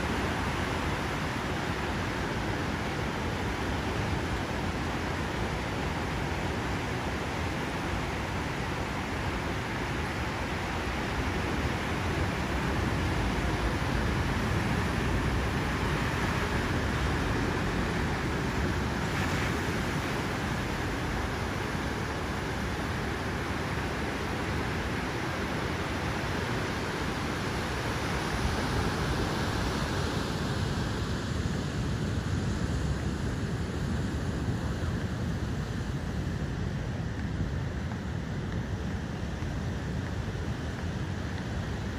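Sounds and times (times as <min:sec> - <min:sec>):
ocean surf breaking: 0:00.0 - 0:41.9.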